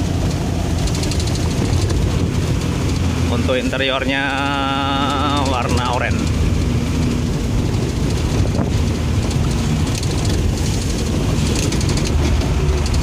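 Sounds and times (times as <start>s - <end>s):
road noise: 0.0s - 13.0s
truck diesel engine drone: 0.0s - 13.0s.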